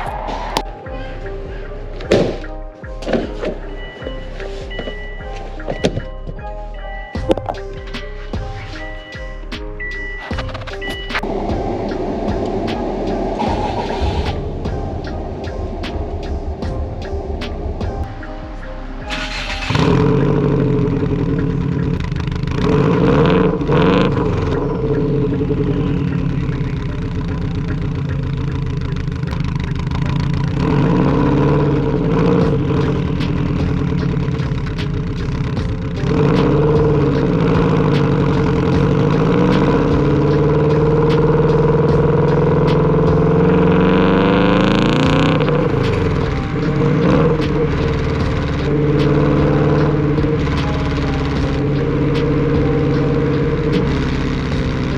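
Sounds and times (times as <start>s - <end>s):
car engine accelerating: 7.3s - 54.9s.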